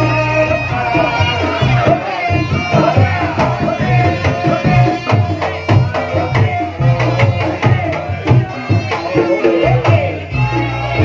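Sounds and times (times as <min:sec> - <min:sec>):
hand drums beating: 0:00.0 - 0:11.0.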